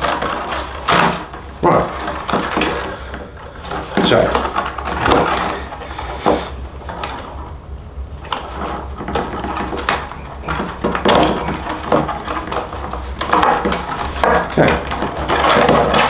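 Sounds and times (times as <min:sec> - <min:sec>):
hide cord rubbing and scraping: 0:00.0 - 0:07.6, 0:08.2 - 0:16.0.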